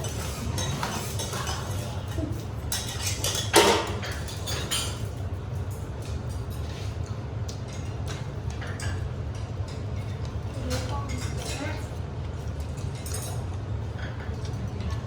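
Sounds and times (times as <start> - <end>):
metal cutlery clinking on plates: 0.0 - 7.0, 7.6 - 15.0.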